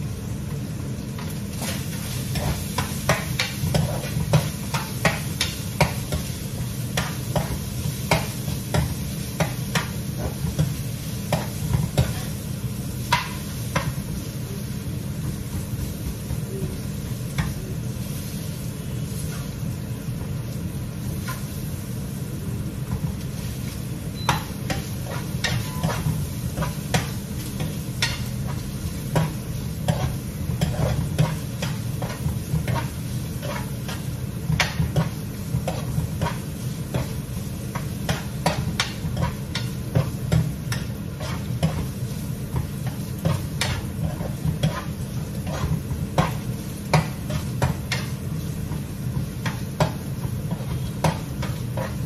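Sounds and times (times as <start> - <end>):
food frying in a pan: 0.0 - 52.0.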